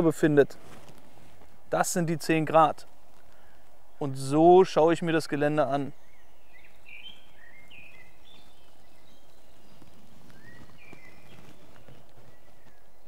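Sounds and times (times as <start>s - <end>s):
low background noise: 0.0s - 13.0s
birds singing: 1.4s - 13.0s.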